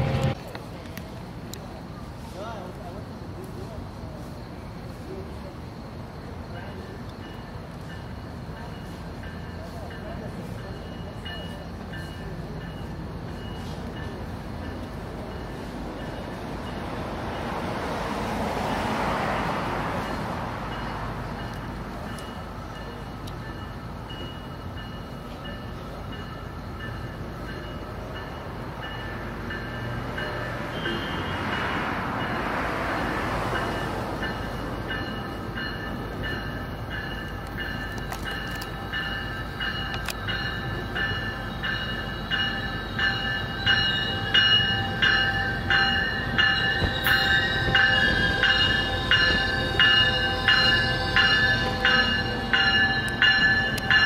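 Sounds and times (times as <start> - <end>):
locomotive bell ringing: 0.0 - 0.4, 6.7 - 17.5, 19.2 - 54.0
train approaching: 0.0 - 54.0.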